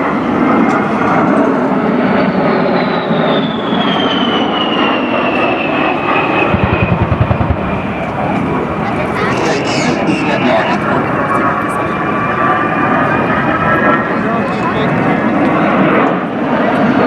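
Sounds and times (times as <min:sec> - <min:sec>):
military aircraft flying past: 0:00.0 - 0:17.0.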